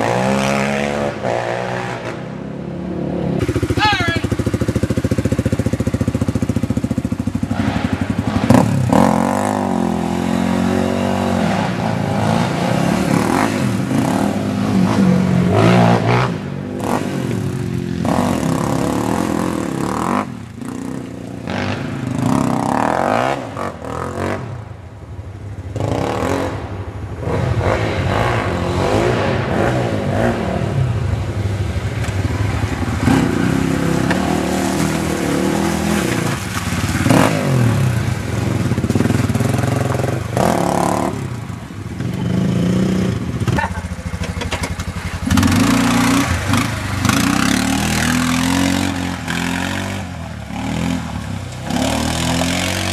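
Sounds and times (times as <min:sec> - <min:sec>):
quad engine revving: 0:00.0 - 0:24.5, 0:25.7 - 0:31.0, 0:32.4 - 0:52.9.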